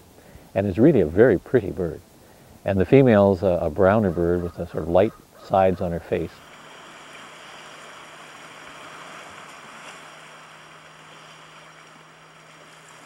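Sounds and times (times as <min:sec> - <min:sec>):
low even hum: 0:00.0 - 0:13.0
sea over open water: 0:00.0 - 0:13.0
wind: 0:00.0 - 0:13.0.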